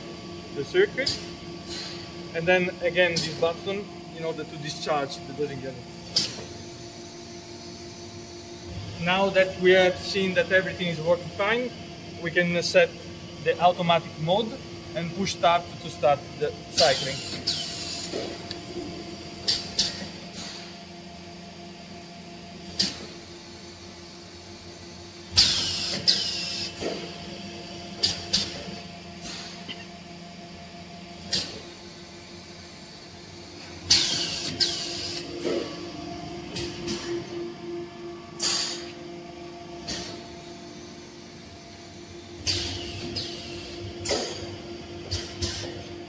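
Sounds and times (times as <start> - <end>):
machine hum: 0.0 - 46.0.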